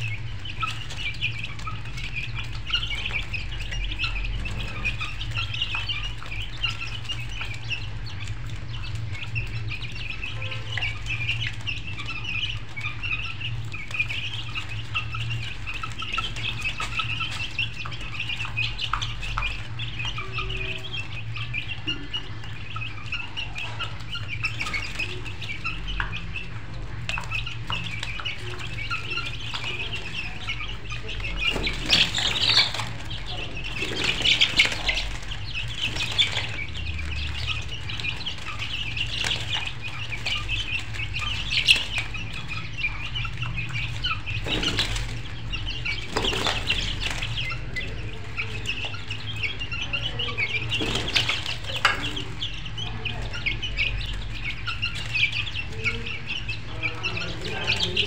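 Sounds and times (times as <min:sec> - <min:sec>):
chickens clucking and chirping: 0:00.0 - 0:58.0
low steady hum: 0:00.0 - 0:58.0.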